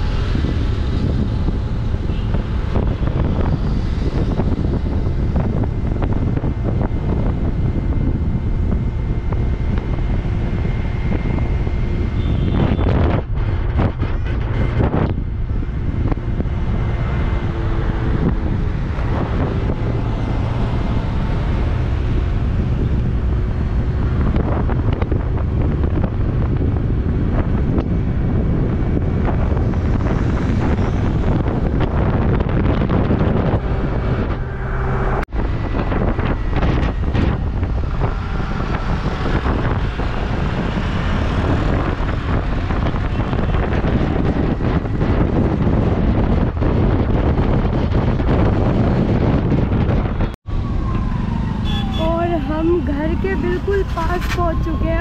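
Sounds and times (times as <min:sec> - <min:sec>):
road and traffic rumble: 0:00.0 - 0:55.0
wind buffeting microphone: 0:00.0 - 0:55.0.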